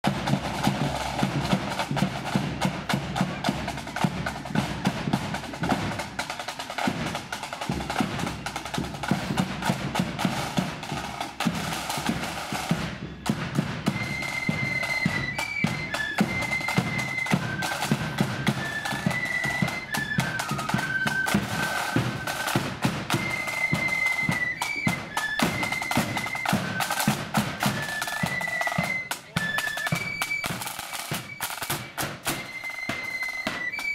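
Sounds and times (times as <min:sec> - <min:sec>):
flutes playing melody: 0:00.0 - 0:33.9
snare drums: 0:00.0 - 0:33.9.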